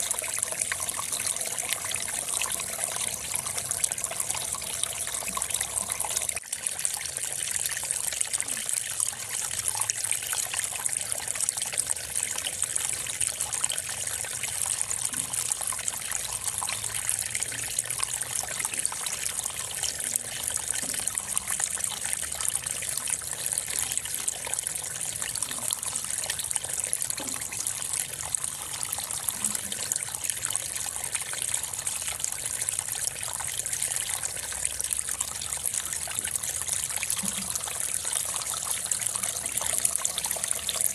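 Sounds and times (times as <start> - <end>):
trickling water-like hiss: 0.0 - 10.7, 12.0 - 40.9.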